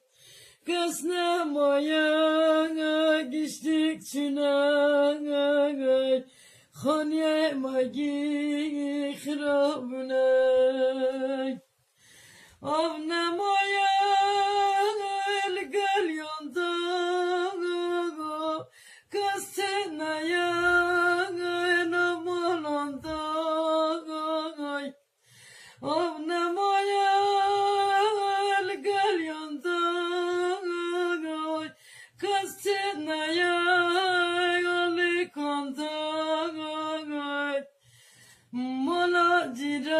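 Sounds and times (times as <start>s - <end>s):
solo voice singing a lament: 0.0s - 11.7s, 12.5s - 25.1s, 25.7s - 37.8s, 38.4s - 39.9s.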